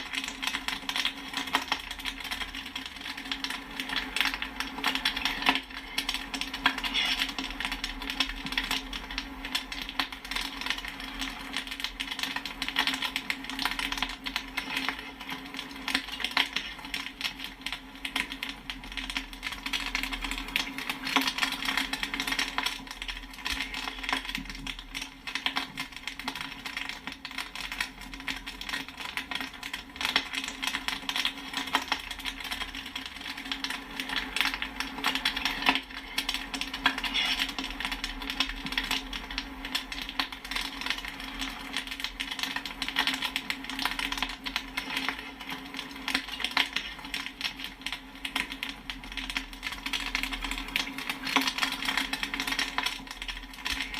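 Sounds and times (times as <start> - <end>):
popcorn popping: 0.0 - 53.9.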